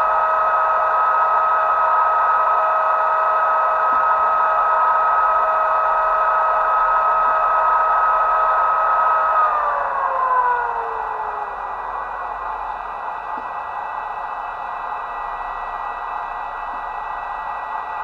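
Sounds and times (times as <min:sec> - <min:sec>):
steady two-note electric whine: 0:00.0 - 0:18.0.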